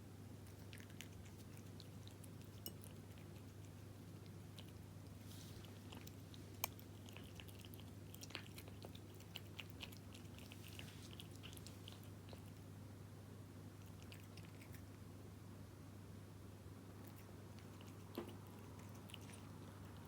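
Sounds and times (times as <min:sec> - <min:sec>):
cat chewing wet food: 0:00.4 - 0:12.8, 0:13.7 - 0:15.1, 0:16.9 - 0:20.0.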